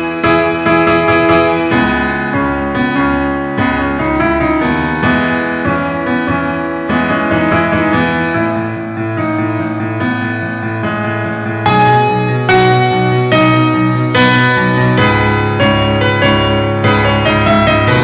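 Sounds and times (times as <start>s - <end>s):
piano background music: 0.0s - 18.0s.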